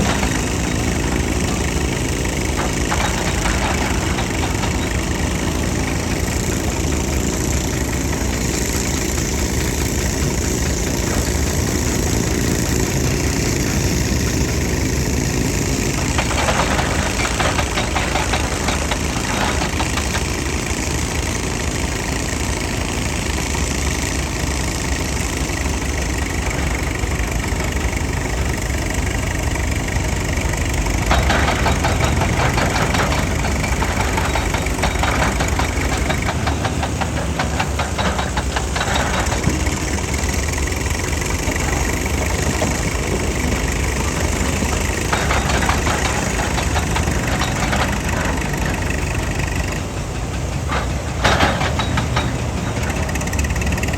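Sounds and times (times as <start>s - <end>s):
diesel engine running: 0.0s - 53.9s
rapid rattling clatter: 0.0s - 53.9s.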